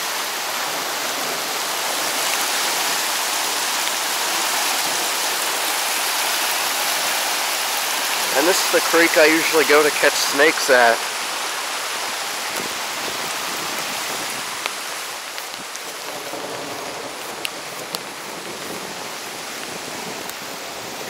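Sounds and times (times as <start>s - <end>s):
flooded creek rushing: 0.0s - 21.0s
heavy rain falling: 0.0s - 21.0s.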